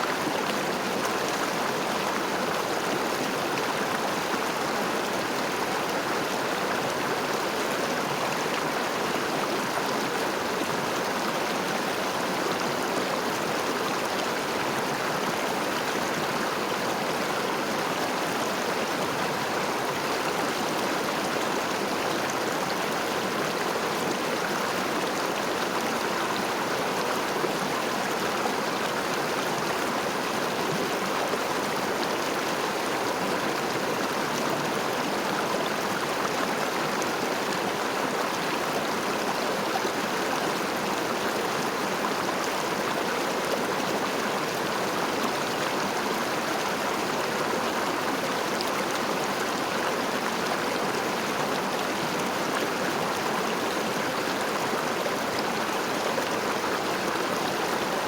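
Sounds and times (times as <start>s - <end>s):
river water rushing and trickling: 0.0s - 58.0s.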